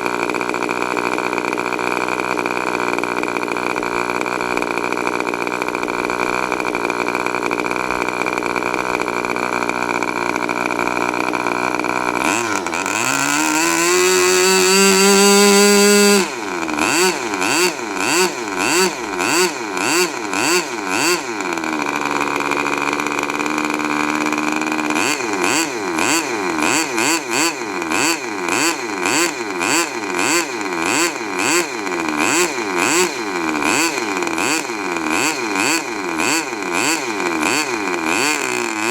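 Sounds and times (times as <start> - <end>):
model engine revving: 0.0 - 38.9.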